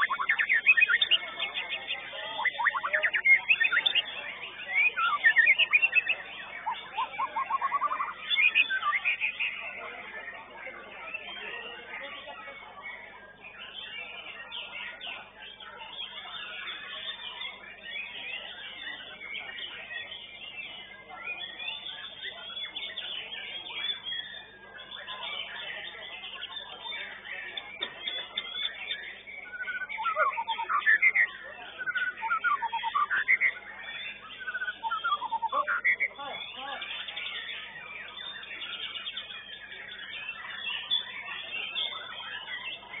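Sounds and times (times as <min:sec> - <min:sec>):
songbird whistles and chirps: 0:00.0 - 0:43.0.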